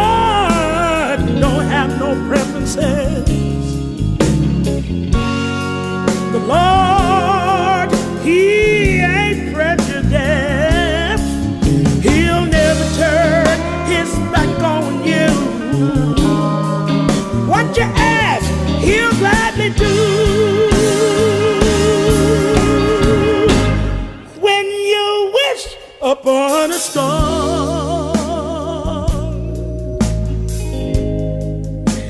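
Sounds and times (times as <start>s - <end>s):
steady bass: 0.0s - 24.4s, 27.1s - 32.0s
guitar: 0.0s - 32.0s
wordless sung melody: 0.0s - 32.0s.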